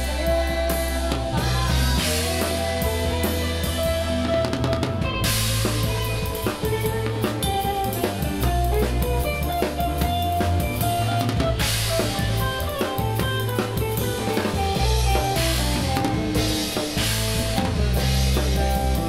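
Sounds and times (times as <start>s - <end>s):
drum kit: 0.0s - 19.0s
live rock band playing: 0.0s - 19.0s.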